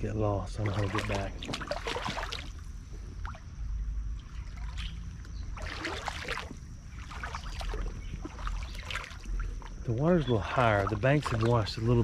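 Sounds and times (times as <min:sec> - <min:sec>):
creek water trickling: 0:00.0 - 0:12.0
water splashes: 0:00.4 - 0:12.0.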